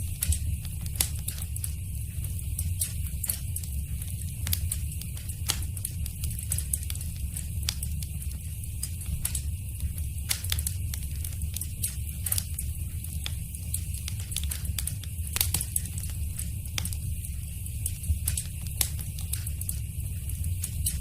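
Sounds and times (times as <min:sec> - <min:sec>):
low steady rumble: 0:00.0 - 0:21.0
wood fire crackling: 0:00.0 - 0:21.0.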